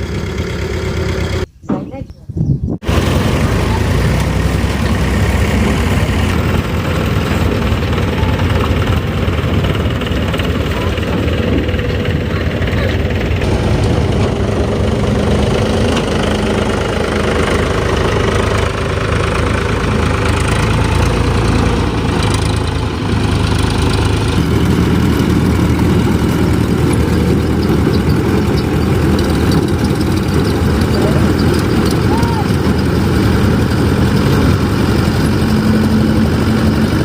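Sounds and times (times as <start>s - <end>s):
diesel engine running: 0.0s - 2.1s, 2.8s - 37.0s.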